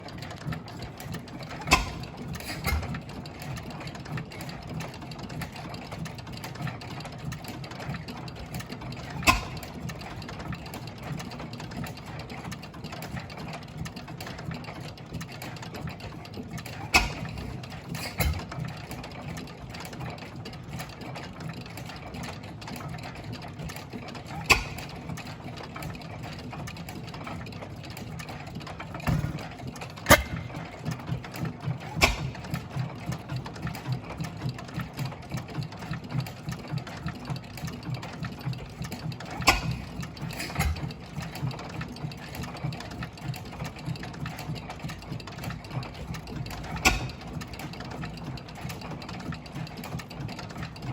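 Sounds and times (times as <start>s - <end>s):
stationary engines clattering: 0.0s - 50.9s.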